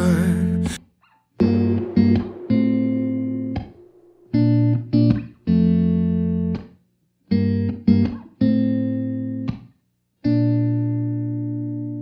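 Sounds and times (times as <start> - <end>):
guitar playing chords: 0.0 - 0.8, 1.4 - 6.7, 7.3 - 9.6, 10.3 - 12.0.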